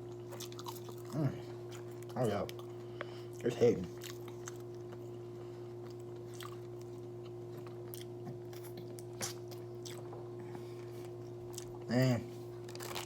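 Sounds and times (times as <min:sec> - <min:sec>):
person chewing crunchy food: 0:00.0 - 0:11.9, 0:12.5 - 0:13.0
steady low hum: 0:00.0 - 0:13.0.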